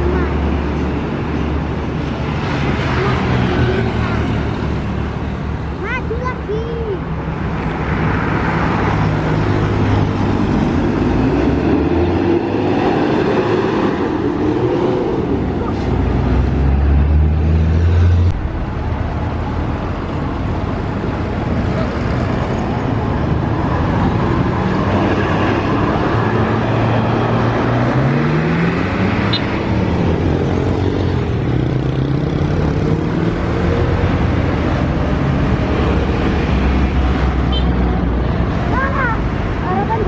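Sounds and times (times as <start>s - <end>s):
heavy road traffic: 0.0s - 40.0s
vehicle accelerating: 7.2s - 40.0s.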